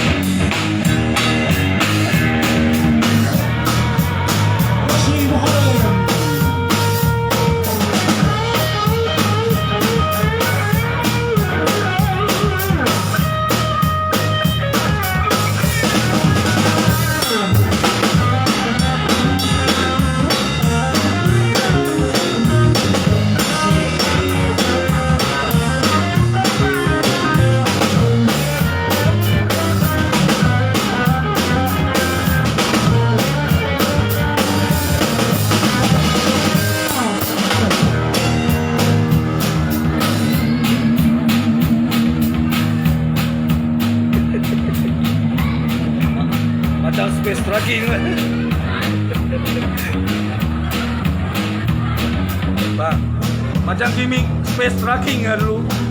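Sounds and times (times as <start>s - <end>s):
drum kit beat: 0.0s - 55.9s
live band playing: 0.0s - 55.9s.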